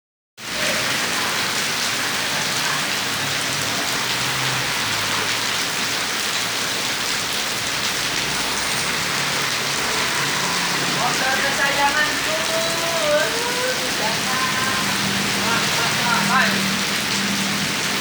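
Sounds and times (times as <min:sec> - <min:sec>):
heavy rain falling: 0:00.4 - 0:18.0.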